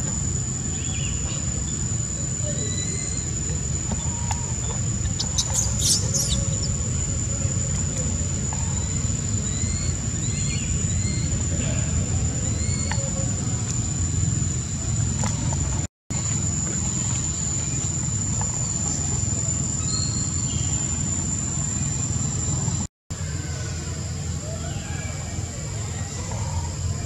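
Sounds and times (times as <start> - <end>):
high-pitched insect drone: 0.0 - 15.6, 16.2 - 22.9.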